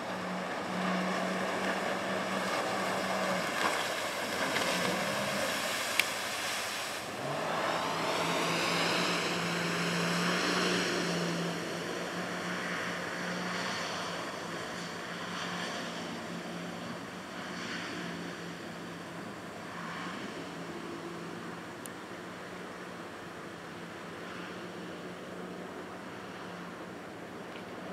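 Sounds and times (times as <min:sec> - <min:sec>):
rush of spray and wake: 0:00.0 - 0:27.9
speedboat engine: 0:00.0 - 0:27.9.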